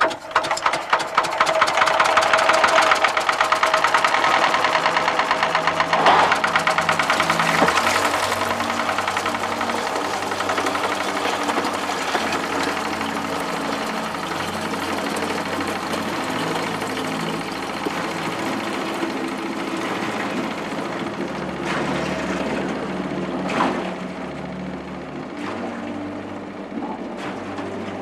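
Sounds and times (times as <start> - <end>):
water pouring from pipe: 0.0 - 24.0
pump engine knocking: 0.0 - 28.0.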